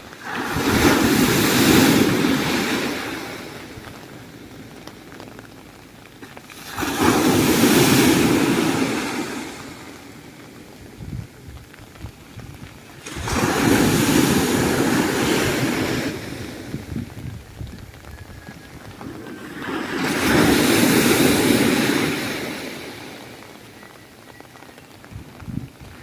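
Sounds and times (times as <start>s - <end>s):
surf hiss: 0.0s - 5.2s, 6.2s - 11.3s, 12.6s - 17.2s, 19.0s - 25.0s
storm waves breaking: 0.0s - 26.0s
wind: 0.0s - 26.0s.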